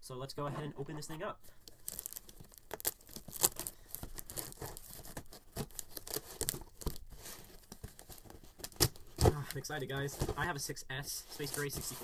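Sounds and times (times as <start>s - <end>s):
cardboard crinkling: 1.6s - 10.6s, 11.2s - 12.0s.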